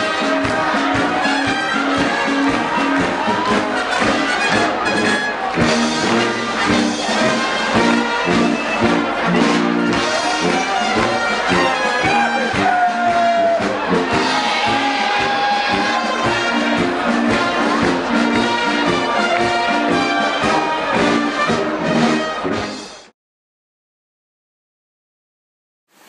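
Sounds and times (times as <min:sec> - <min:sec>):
brass music: 0:00.0 - 0:23.1.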